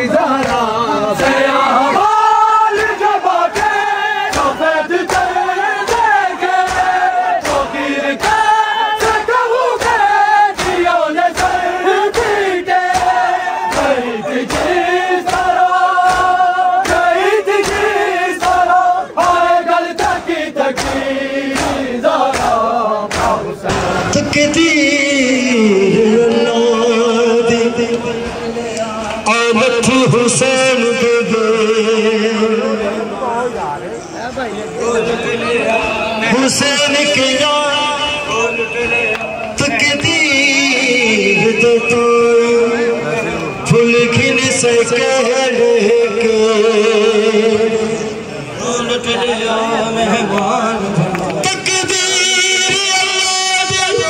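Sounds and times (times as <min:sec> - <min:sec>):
men chanting in unison: 0:00.0 - 0:33.8, 0:34.4 - 0:54.0.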